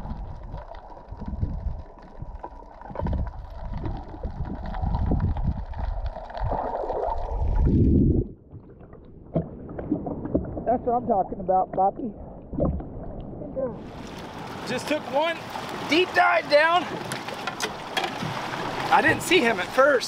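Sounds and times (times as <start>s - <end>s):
underwater water rushing: 0.0s - 20.0s.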